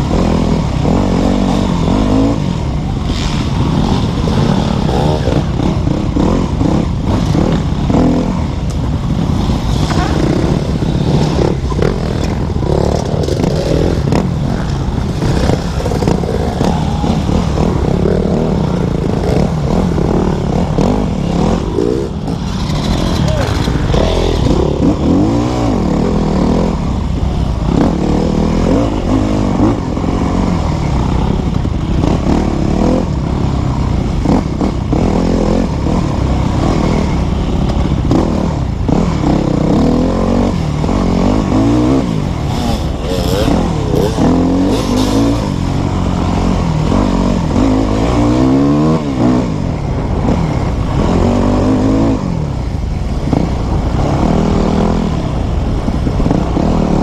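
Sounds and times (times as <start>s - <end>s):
dirt bike engine revving: 0.0s - 52.5s.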